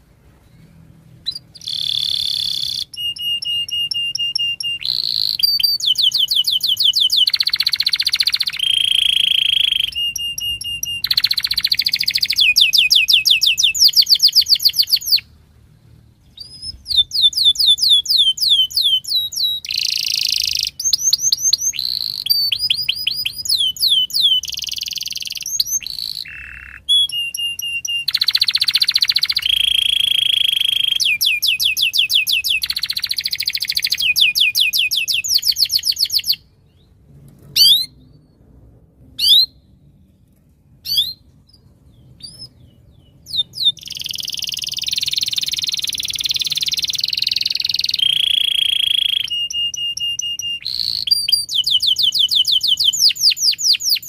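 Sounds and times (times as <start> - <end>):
canary singing: 0.0 - 15.4, 16.2 - 37.0, 37.6 - 38.3, 39.2 - 39.8, 40.8 - 54.0.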